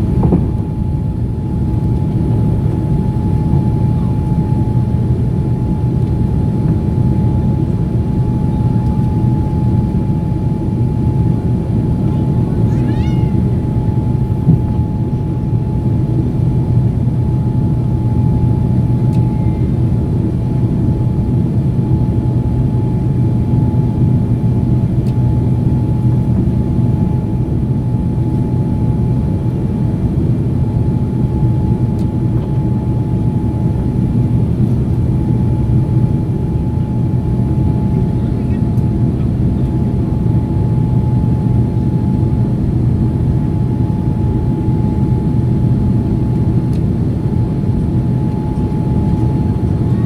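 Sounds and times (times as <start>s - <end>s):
jet engines droning: 0.0s - 50.0s
steady high whine: 0.0s - 50.0s.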